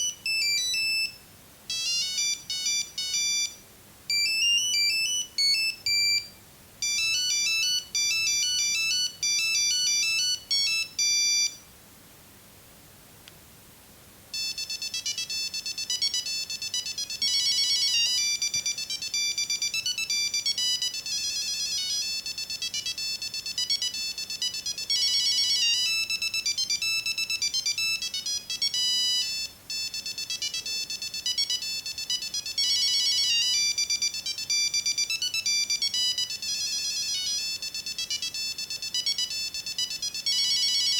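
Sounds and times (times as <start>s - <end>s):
mobile phone ringtone melody: 0.0s - 11.6s, 14.3s - 40.9s.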